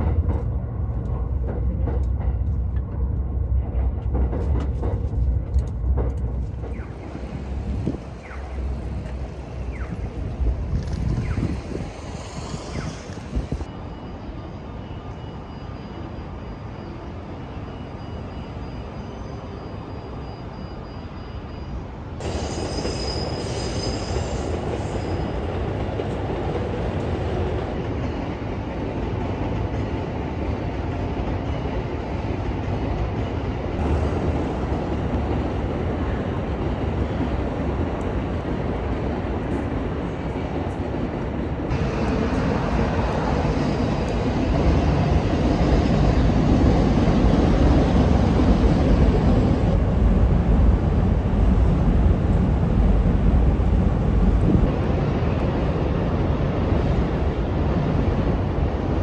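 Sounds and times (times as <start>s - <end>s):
train wheels rumbling on rails: 0.0s - 14.1s, 22.2s - 59.0s.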